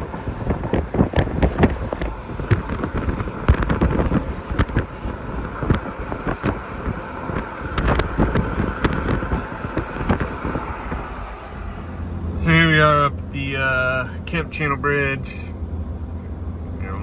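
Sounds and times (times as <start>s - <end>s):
wind buffeting microphone: 0.0s - 14.8s
steady low rumble: 0.0s - 17.0s.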